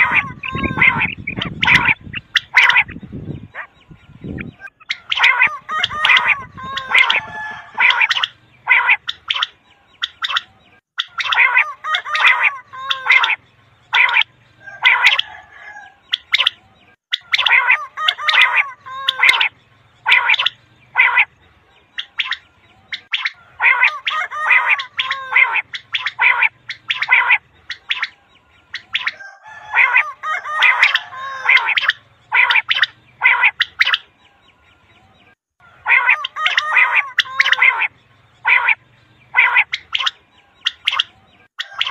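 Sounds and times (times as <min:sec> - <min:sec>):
quail calling: 0:00.0 - 0:34.2, 0:35.6 - 0:41.9.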